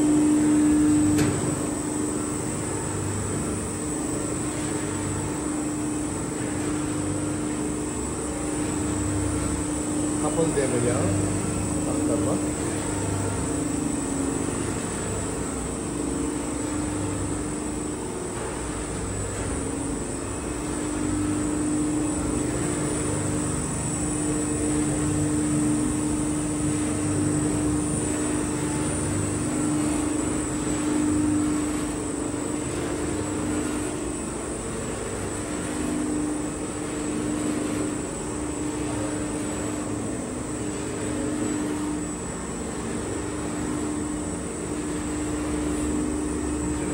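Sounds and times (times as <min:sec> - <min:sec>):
motor humming: 0:00.0 - 0:46.9.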